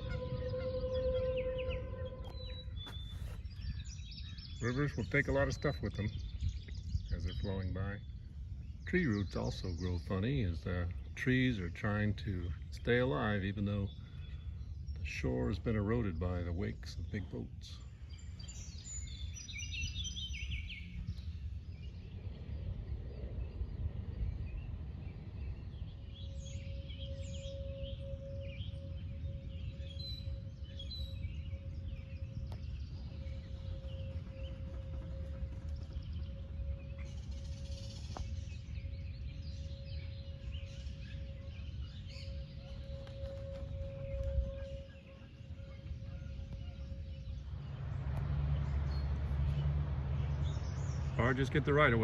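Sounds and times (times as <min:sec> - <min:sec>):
bird calls: 0:00.0 - 0:52.0
faint hum: 0:00.0 - 0:52.0
low outdoor rumble: 0:00.0 - 0:52.0
small songbird singing: 0:00.0 - 0:52.0.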